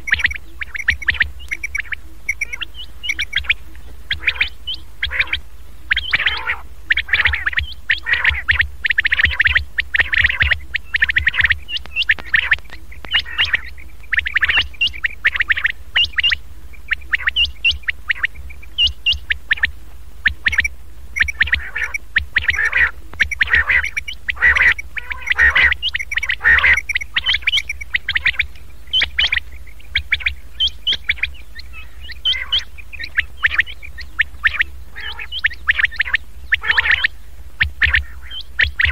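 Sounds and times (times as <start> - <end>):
quail calling: 0.0 - 38.9
steady low hum: 0.0 - 38.9.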